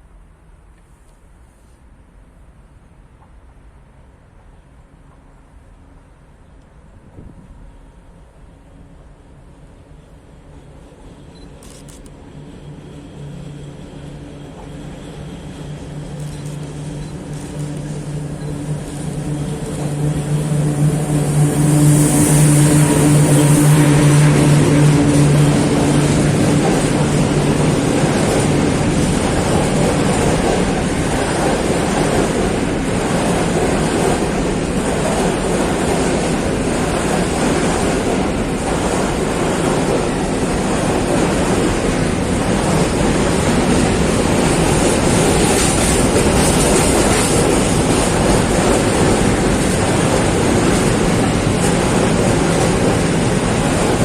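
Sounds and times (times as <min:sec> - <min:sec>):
freight train rolling past: 0:03.0 - 0:54.0.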